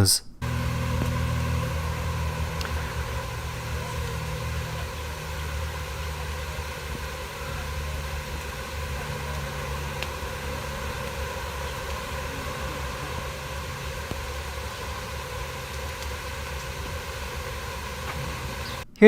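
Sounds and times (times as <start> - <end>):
even hiss: 0.0 - 19.0
low mechanical hum: 0.3 - 19.0.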